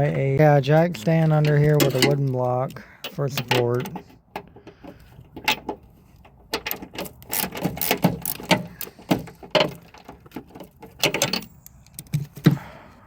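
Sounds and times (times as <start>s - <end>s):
hand tools clicking on metal: 1.2s - 12.2s.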